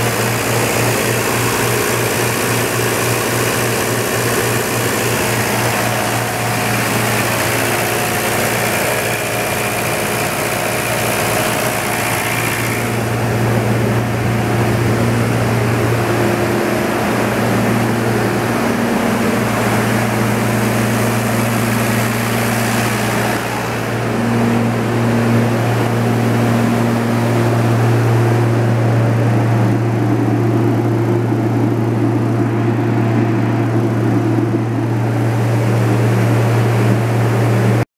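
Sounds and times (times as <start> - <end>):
diesel generator running: 0.0 - 37.9.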